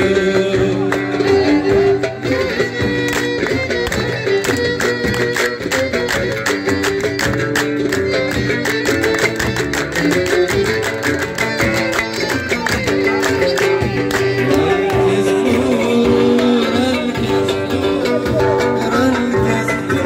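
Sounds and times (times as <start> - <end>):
hand drums beating fast rhythm: 0.0 - 20.0
oud plucked melody: 0.0 - 20.0
violin: 0.0 - 20.0.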